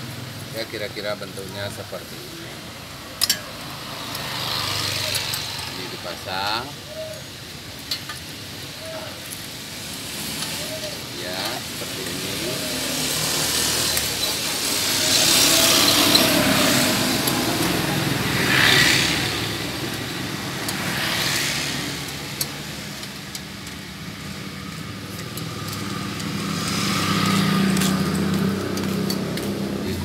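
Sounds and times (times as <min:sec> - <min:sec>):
motor vehicles passing by: 0:00.0 - 0:30.0.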